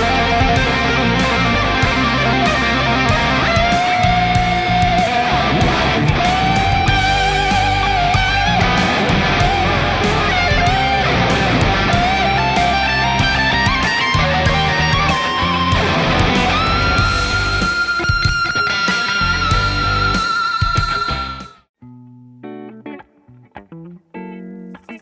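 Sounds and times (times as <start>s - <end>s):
sustained guitar chords: 0.0s - 21.4s
electric guitar lead with delay: 0.0s - 24.7s.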